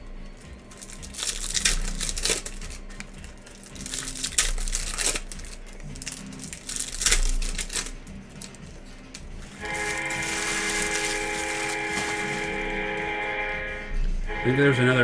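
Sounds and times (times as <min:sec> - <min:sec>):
foil wrappers crinkling and tearing: 0:00.4 - 0:13.1.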